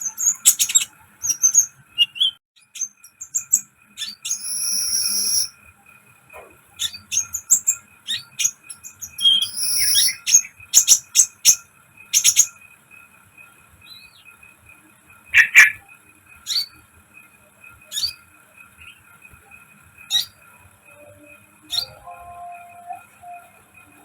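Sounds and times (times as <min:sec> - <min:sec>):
faint high whine: 0:02.7 - 0:24.0.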